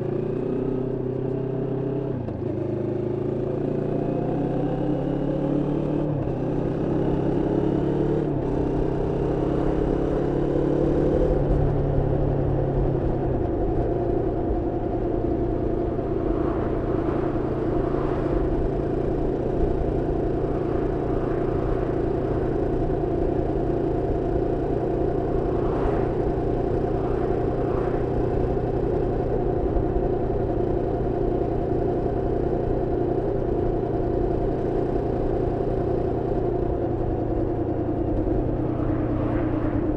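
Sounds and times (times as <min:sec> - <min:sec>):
motorcycle engine revving and cruising: 0:00.0 - 0:39.9.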